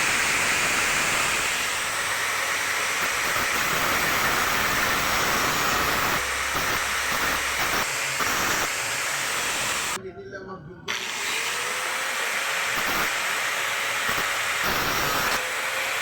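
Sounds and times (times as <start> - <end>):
power tool airy hiss: 0.0 - 10.0, 10.9 - 16.0.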